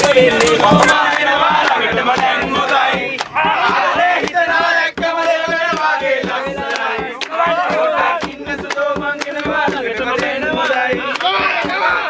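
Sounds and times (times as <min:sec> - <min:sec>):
hand clapping: 0:00.0 - 0:12.0
young men singing and chanting: 0:00.0 - 0:12.0.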